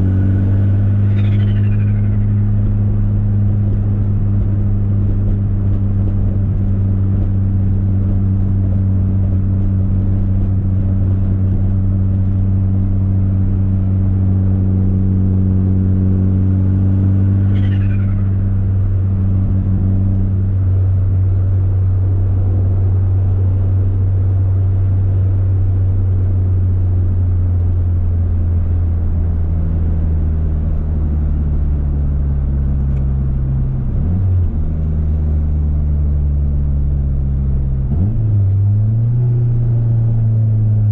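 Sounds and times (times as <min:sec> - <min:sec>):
car engine running loud: 0:00.0 - 0:40.9.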